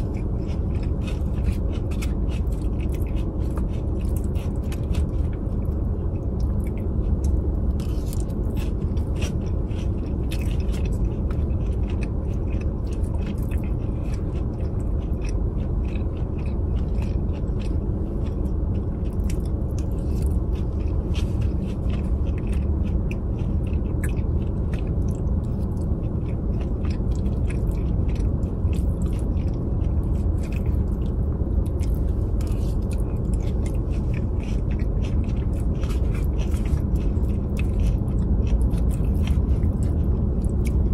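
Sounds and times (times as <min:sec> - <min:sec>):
crunchy chewing: 0:00.0 - 0:40.9
low rumble: 0:00.0 - 0:40.9.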